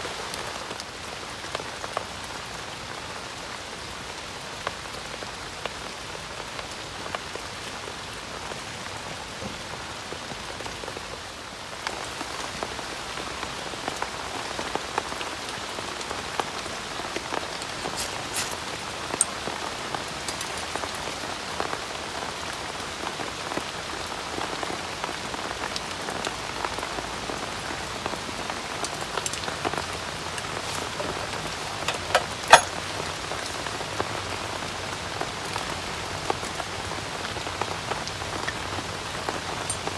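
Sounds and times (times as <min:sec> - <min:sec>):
steady rain drops ticking: 0:00.0 - 0:39.9.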